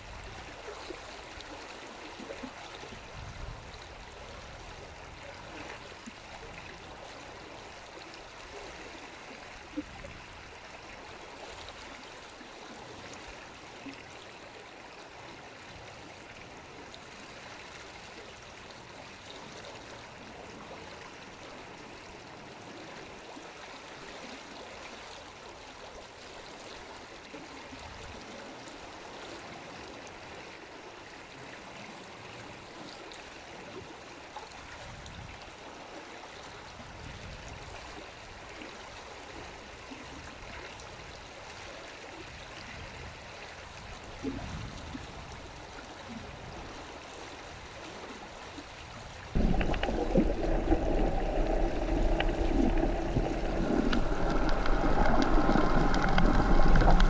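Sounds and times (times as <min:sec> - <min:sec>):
flowing water rushing: 0:00.0 - 0:34.9, 0:45.1 - 0:57.0.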